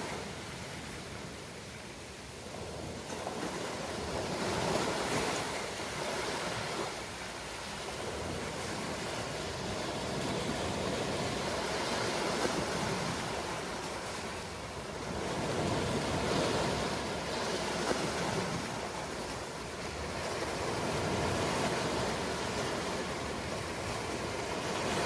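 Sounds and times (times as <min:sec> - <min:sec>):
ocean waves breaking on shore: 0:00.0 - 0:25.0.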